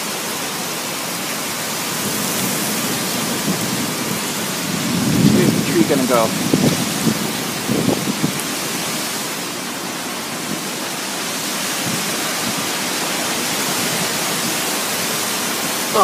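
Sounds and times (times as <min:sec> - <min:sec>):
rain hissing: 0:00.0 - 0:16.0
strong wind: 0:01.1 - 0:16.0.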